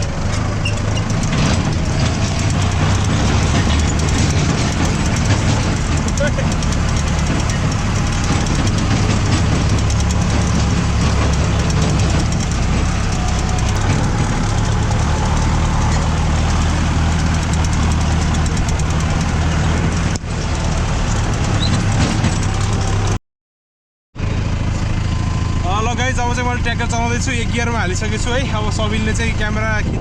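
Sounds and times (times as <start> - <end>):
tractor diesel engine running: 0.0 - 23.2, 24.2 - 30.0.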